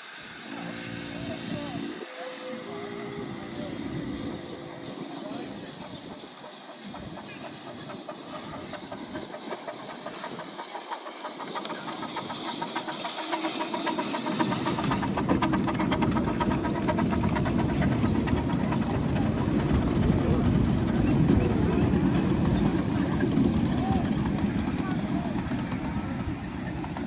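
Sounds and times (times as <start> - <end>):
steam hissing: 0.0 - 27.0
train running rumble: 0.3 - 27.0.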